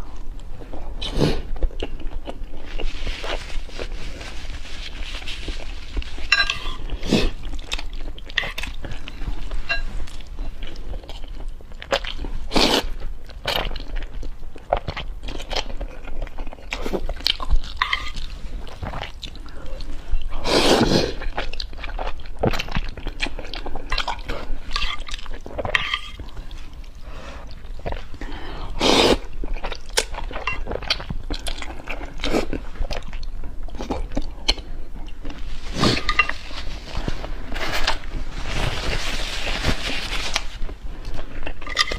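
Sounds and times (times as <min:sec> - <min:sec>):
person chewing noodles: 0:00.0 - 0:38.2.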